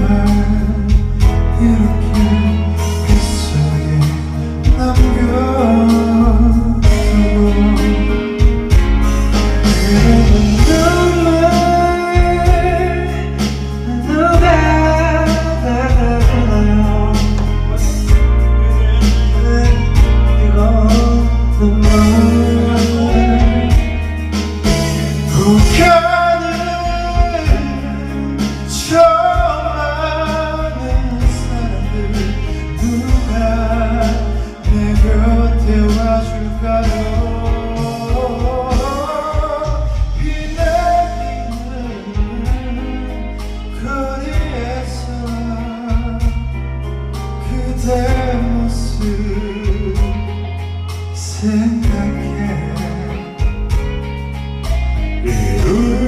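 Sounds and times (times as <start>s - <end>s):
song with bass and drum beat: 0.0s - 56.0s.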